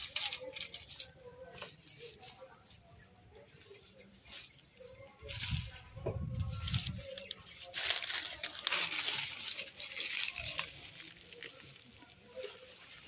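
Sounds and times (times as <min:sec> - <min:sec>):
leaves and twigs rustling and snapping: 0:00.0 - 0:02.4, 0:03.5 - 0:13.0.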